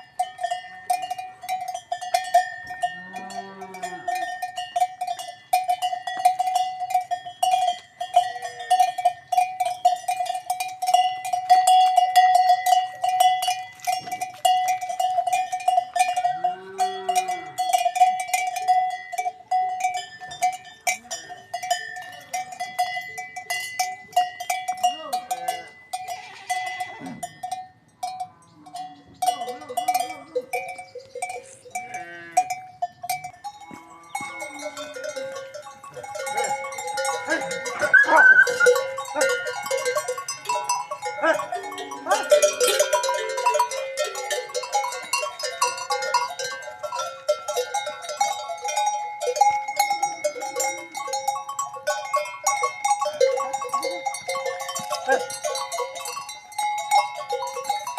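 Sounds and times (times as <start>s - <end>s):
livestock bells clanking: 0.0s - 57.9s.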